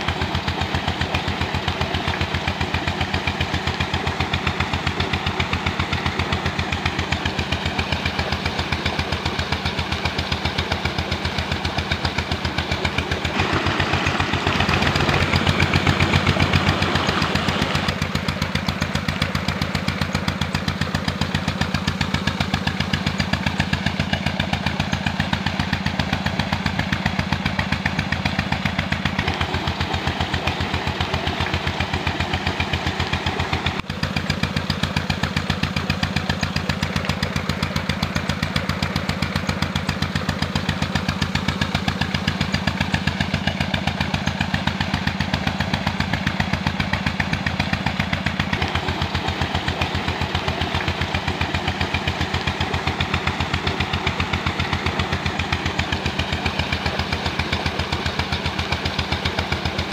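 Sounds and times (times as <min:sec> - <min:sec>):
stationary engine running: 0:00.0 - 0:59.9
water gushing from pipe: 0:00.0 - 0:59.9.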